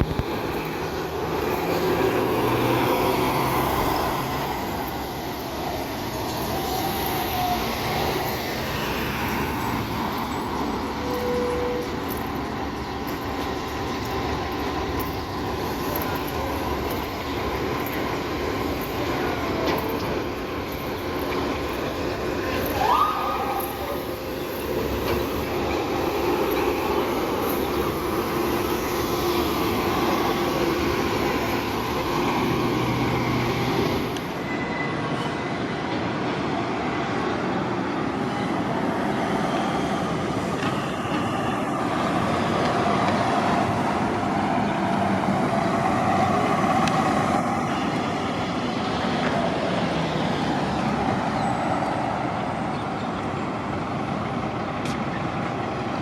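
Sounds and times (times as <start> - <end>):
bus engines: 0.0 - 56.0.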